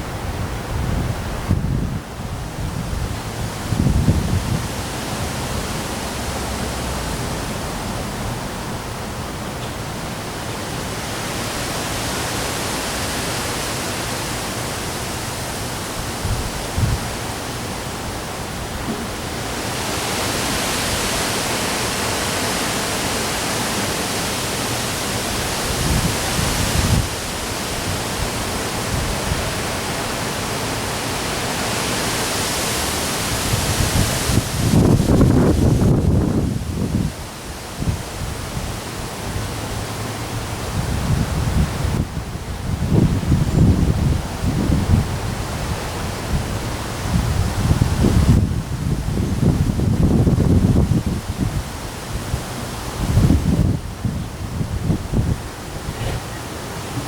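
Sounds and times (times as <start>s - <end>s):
wind buffeting microphone: 0.0s - 13.3s, 14.1s - 21.9s, 24.8s - 31.1s, 33.1s - 57.0s
rain and wind hiss: 0.0s - 57.0s.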